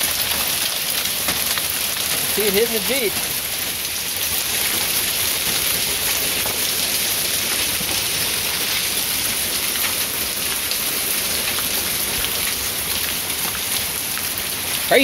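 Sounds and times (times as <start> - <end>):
hailstones ticking: 0.0 - 15.0
heavy rain and hail: 0.0 - 15.0.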